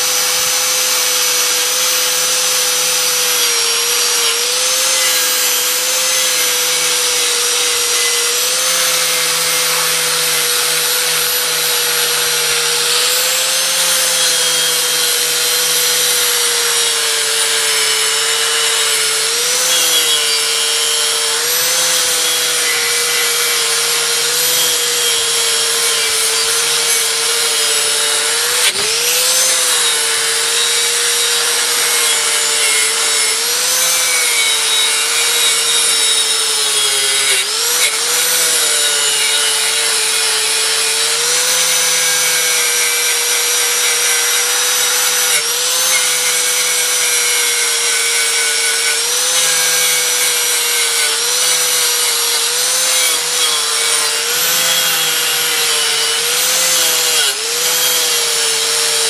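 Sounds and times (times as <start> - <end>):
electric grinder whine: 0.0 - 59.0.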